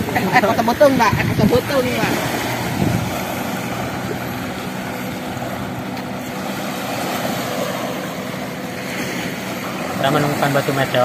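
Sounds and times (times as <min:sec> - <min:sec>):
boat engine droning: 0:00.0 - 0:11.0
small waves washing ashore: 0:00.0 - 0:11.0.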